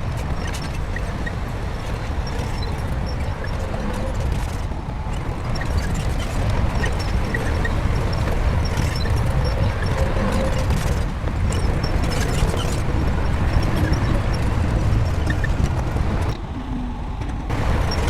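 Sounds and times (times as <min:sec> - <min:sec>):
bulldozer diesel engine rumble: 0:00.0 - 0:18.0.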